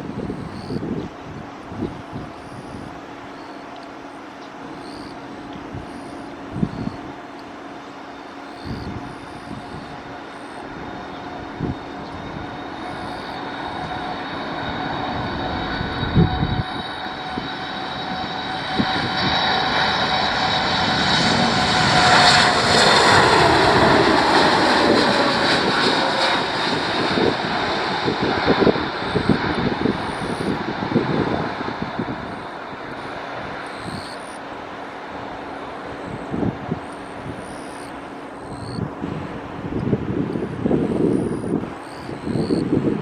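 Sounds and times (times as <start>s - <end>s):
jet engine roar and whine: 0.0s - 43.0s.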